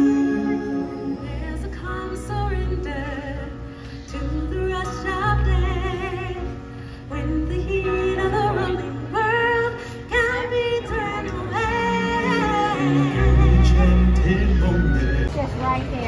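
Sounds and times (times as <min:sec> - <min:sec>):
amplified backing music with deep bass: 0:00.0 - 0:16.0.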